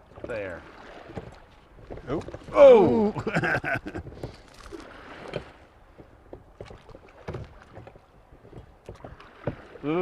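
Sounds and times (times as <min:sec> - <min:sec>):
moving water wash: 0:00.0 - 0:10.0
thumps on boat: 0:00.1 - 0:04.4, 0:05.2 - 0:10.0.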